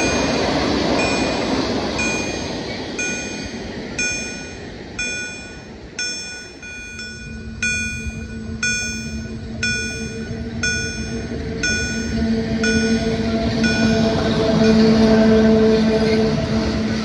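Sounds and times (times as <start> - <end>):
approaching train hum: 0.0 - 17.0
level-crossing warning bell: 0.0 - 17.0.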